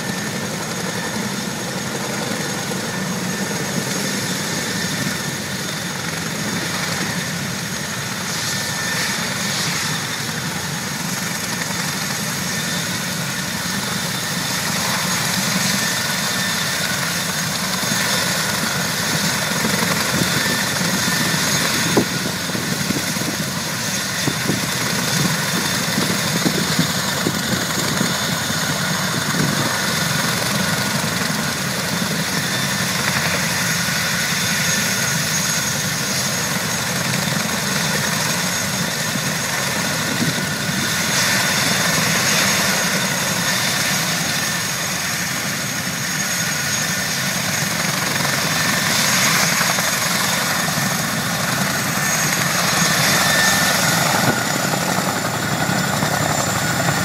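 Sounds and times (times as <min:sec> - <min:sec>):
helicopter engine whine: 0:00.0 - 0:57.0
helicopter rotor rush: 0:00.0 - 0:57.0.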